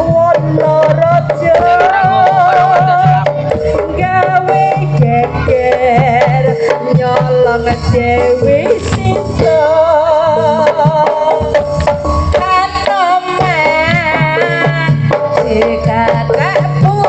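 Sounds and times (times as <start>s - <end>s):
drums beating steadily: 0.0s - 17.0s
gamelan music over loudspeakers: 0.0s - 17.0s.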